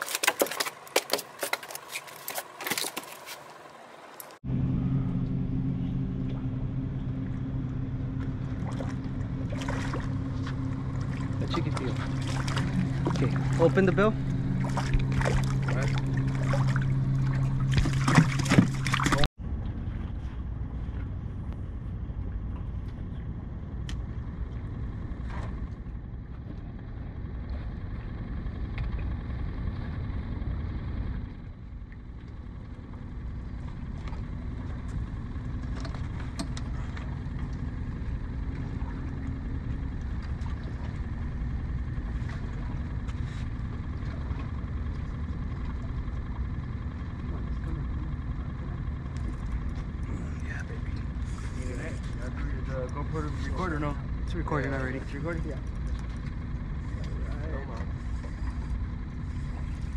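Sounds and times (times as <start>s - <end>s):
steady low hum: 0.0s - 59.9s
wind and water rumble: 0.0s - 59.9s.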